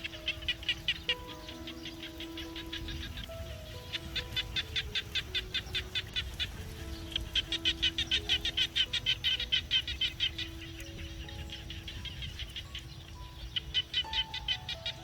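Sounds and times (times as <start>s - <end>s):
rapid pulsed chirping: 0.0s - 15.0s
soft background music: 0.0s - 15.0s.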